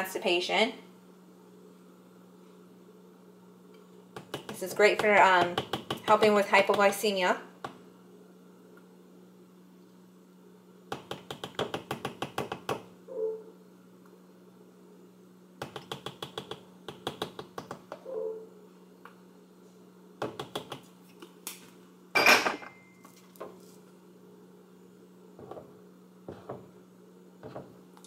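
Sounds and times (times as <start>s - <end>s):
steady low hum: 0.0s - 11.5s, 12.5s - 28.0s.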